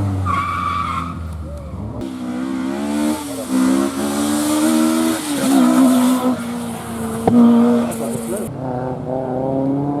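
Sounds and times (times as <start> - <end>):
rally car engine revving: 1.1 - 10.0.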